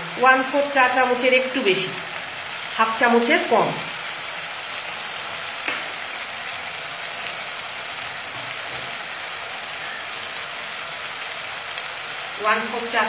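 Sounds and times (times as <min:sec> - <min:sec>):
greens frying in a pan: 0:00.0 - 0:13.0.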